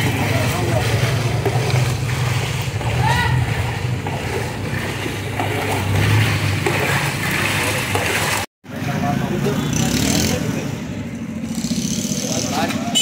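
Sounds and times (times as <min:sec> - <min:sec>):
traffic drone: 0:00.0 - 0:13.0.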